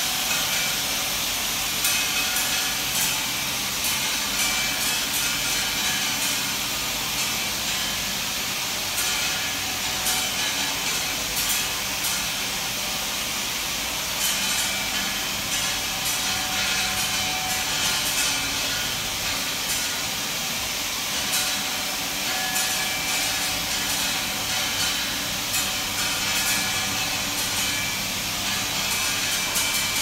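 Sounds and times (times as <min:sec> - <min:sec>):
machine hissing and humming: 0:00.0 - 0:30.0.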